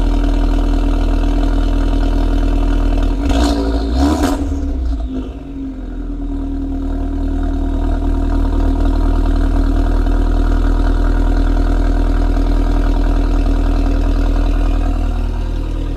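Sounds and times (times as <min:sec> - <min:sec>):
car exhaust idling: 0:00.0 - 0:15.9.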